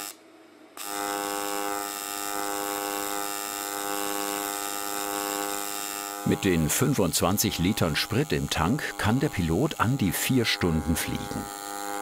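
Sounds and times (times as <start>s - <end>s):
welding arc buzzing: 0.0s - 0.2s, 0.8s - 12.0s.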